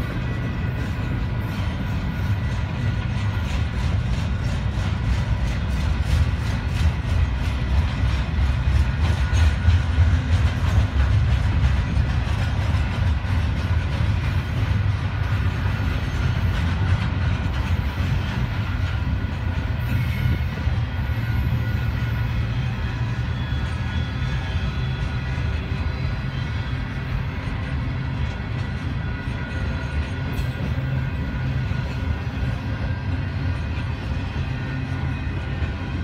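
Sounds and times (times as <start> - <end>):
clickety-clack over rail joints: 0.0 - 36.0
steel wheels rumbling on rail: 0.0 - 36.0.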